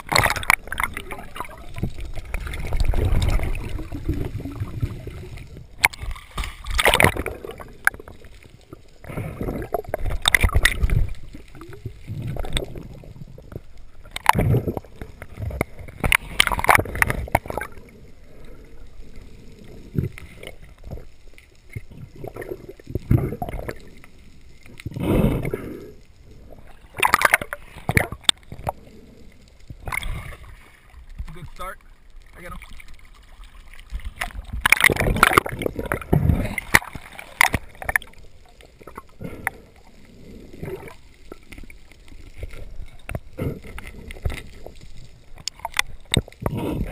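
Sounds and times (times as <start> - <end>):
gurgling water wash: 0.0 - 46.9
muffled underwater rushing water: 0.0 - 46.9.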